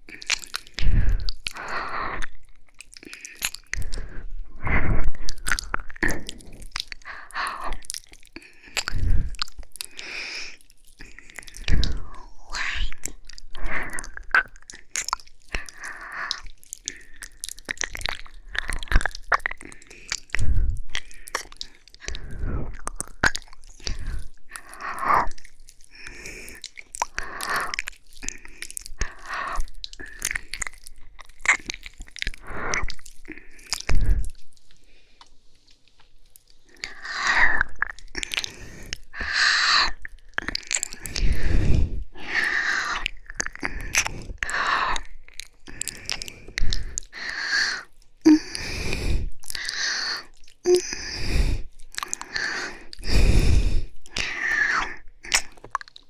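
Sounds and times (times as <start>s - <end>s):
mouth smacks and clicks: 0.0s - 56.0s
breaths: 0.1s - 31.6s, 32.2s - 36.0s, 36.6s - 55.8s
wet licking and kissing sounds: 5.2s - 34.6s, 36.4s - 56.0s.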